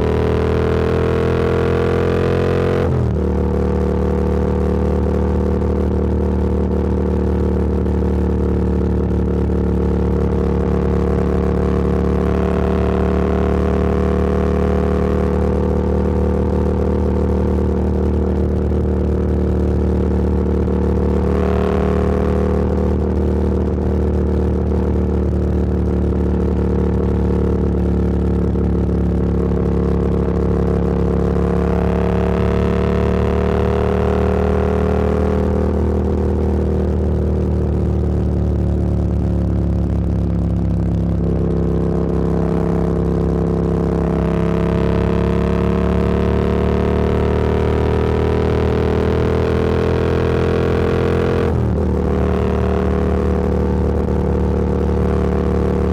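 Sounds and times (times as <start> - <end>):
motorcycle engine running: 0.0 - 55.9
wind and road noise: 8.9 - 55.9.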